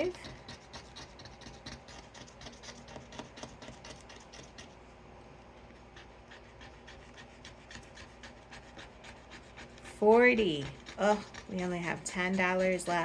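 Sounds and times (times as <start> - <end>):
scratching scratch-off card: 0.0 - 4.8, 6.1 - 13.0.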